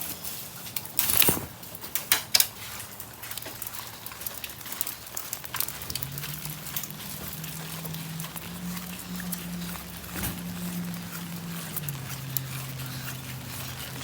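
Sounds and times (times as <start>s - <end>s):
raindrops pattering on umbrella: 0.0s - 14.0s
umbrella opening with rustle and snap: 0.0s - 14.0s.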